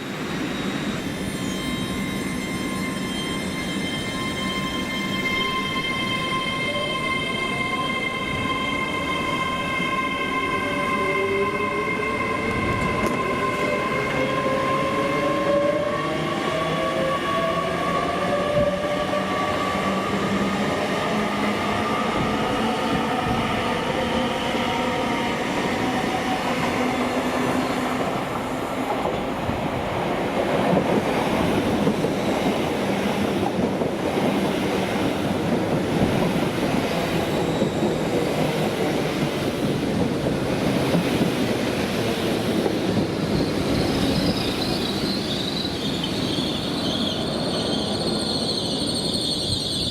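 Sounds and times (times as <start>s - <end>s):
train traction whine: 0.0s - 49.9s.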